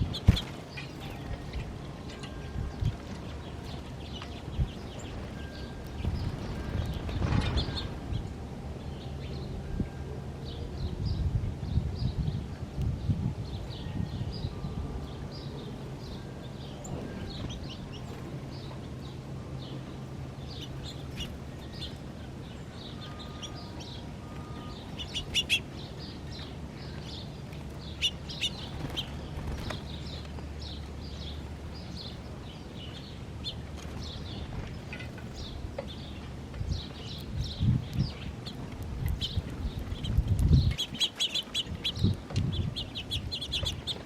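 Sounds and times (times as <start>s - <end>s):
small birds chirping: 0.0s - 9.6s, 10.4s - 44.0s
steady low hum: 0.0s - 44.0s.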